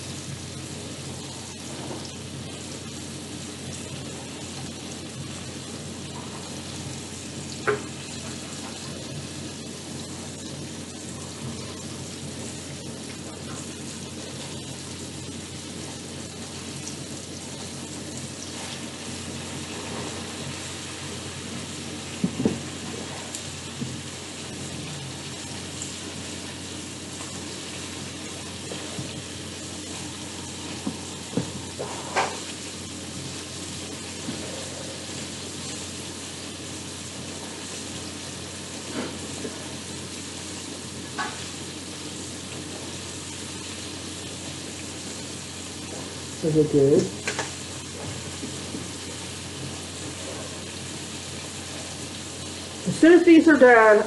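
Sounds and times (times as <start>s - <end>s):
steaks sizzling in hot oil: 0.0s - 54.0s.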